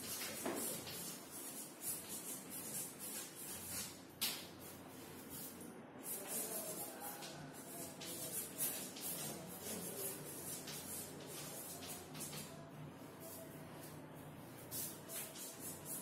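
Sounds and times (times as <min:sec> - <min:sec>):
chalk scratching on chalkboard: 0:00.0 - 0:16.0.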